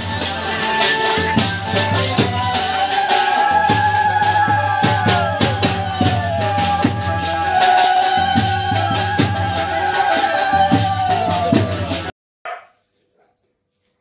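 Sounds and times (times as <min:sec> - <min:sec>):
background music with shaker and drums: 0:00.0 - 0:12.1.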